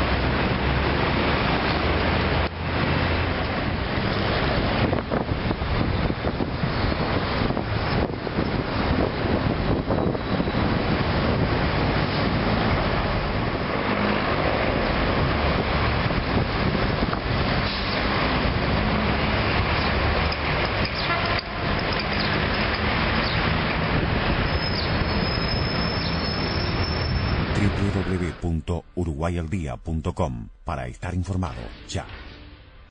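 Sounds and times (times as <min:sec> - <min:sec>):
city street traffic: 0:00.0 - 0:32.9.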